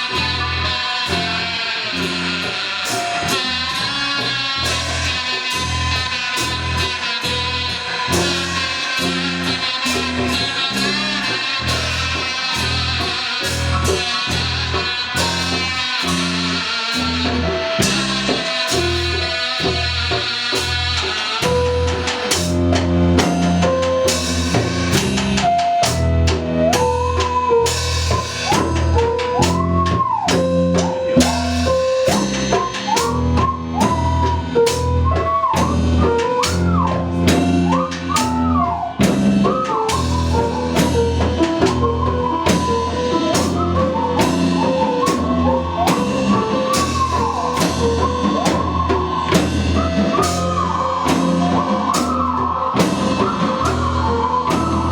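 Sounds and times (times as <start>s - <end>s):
bass: 0.0s - 54.9s
drum kit beat: 0.0s - 54.9s
live blues band playing: 0.0s - 54.9s.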